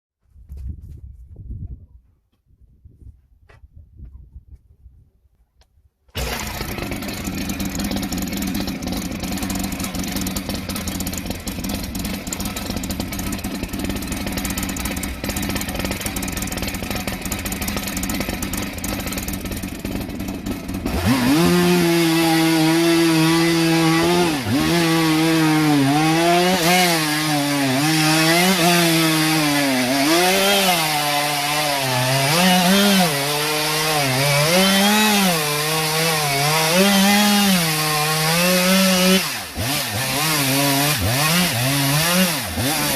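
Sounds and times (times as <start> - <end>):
chainsaw idling and cutting log: 6.1 - 42.9.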